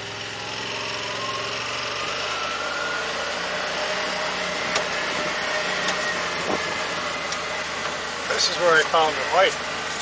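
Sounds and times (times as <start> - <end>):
small vehicle engine running: 0.0 - 10.0.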